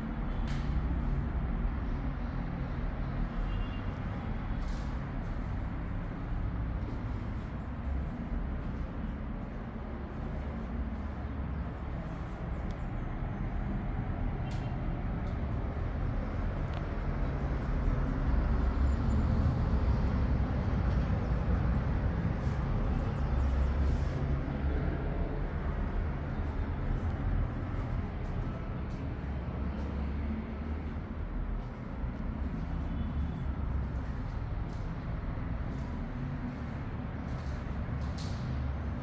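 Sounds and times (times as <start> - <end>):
low outdoor rumble: 0.0 - 39.0.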